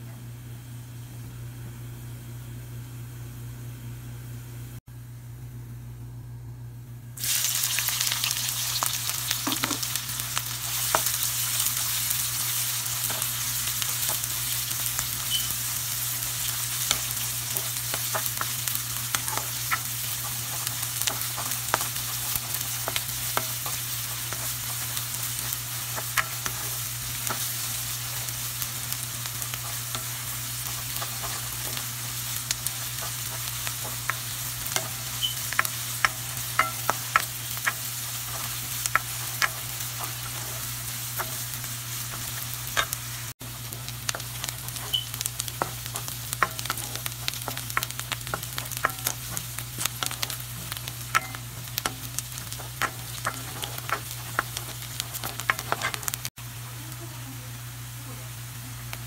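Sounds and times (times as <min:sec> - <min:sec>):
onion sizzling in hot oil: 0:07.2 - 0:59.0.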